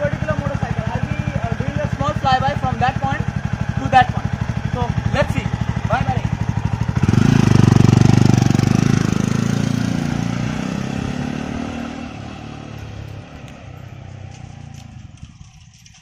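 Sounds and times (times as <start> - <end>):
motorcycle riding off: 0.0 - 16.0.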